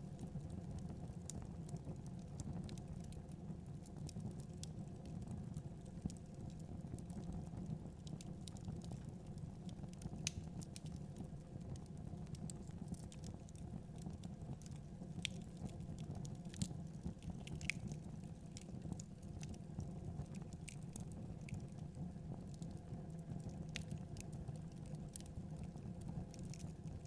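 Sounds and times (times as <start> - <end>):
low fire rumble: 0.0 - 27.0
wood fire crackling: 0.0 - 27.0.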